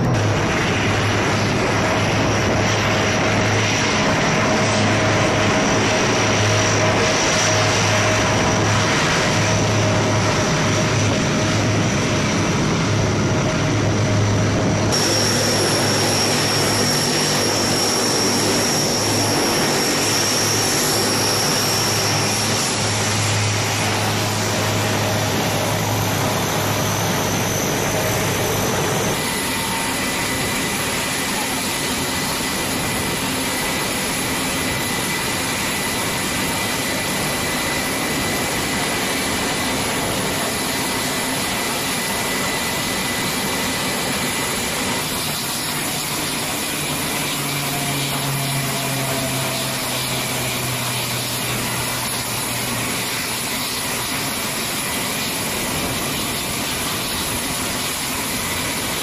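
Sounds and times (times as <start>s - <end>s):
high turbine whine: 0.0s - 59.0s
turboprop engines running: 0.0s - 59.0s.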